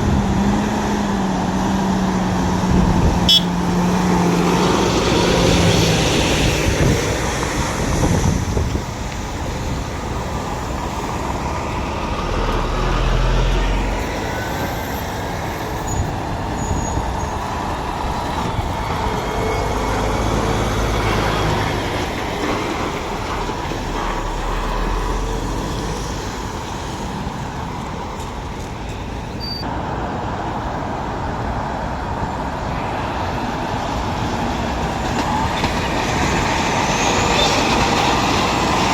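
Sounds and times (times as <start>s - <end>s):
heavy lorry engines passing: 0.0s - 38.9s
road traffic: 0.0s - 38.9s.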